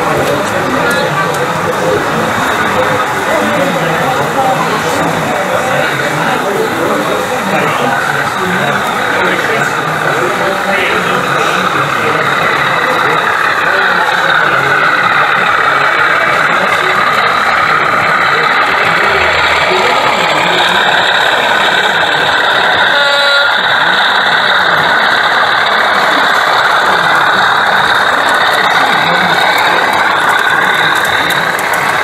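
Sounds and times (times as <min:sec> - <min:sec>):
model train motor whirring: 0:00.0 - 0:32.0.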